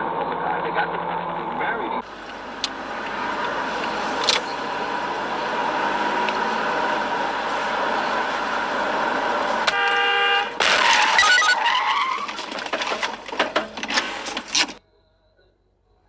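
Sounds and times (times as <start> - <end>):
car crash with clatters: 0.0 - 14.8
car road noise: 0.0 - 14.8
tyre screech: 0.1 - 14.8
car horn: 1.0 - 14.8.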